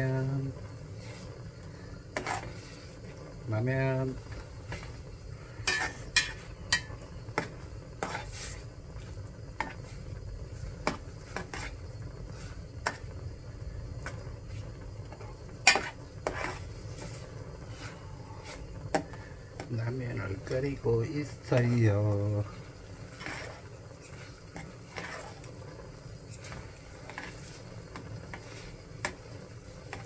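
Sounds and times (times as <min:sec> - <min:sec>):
noodles boiling in pot: 0:00.0 - 0:30.0
utensil clinking and scraping pot: 0:02.1 - 0:03.2, 0:04.2 - 0:10.0, 0:10.8 - 0:13.1, 0:14.0 - 0:30.0.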